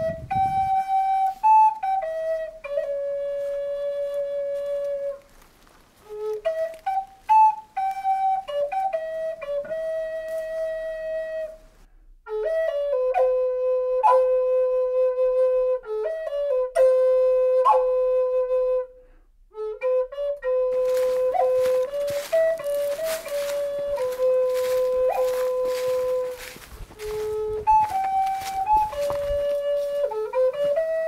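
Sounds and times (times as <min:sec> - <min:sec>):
slow solo flute melody: 0:00.0 - 0:31.0.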